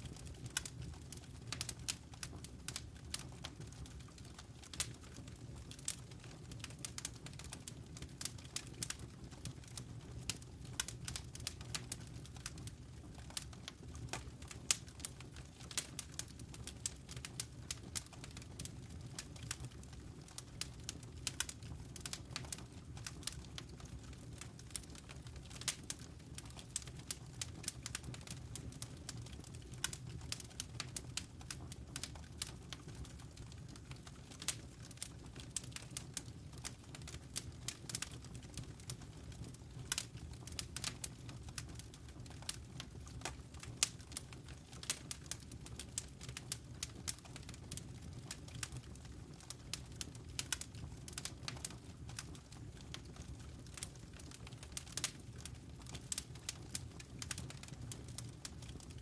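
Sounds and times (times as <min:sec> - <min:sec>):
low rumble of burning fire: 0:00.0 - 0:59.0
wood fire crackling and popping: 0:00.0 - 0:59.0.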